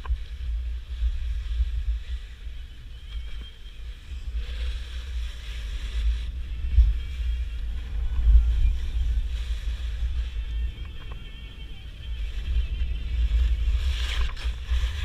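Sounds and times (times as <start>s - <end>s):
skis sliding on snow: 0.0s - 15.0s
wind buffeting microphone: 0.0s - 15.0s.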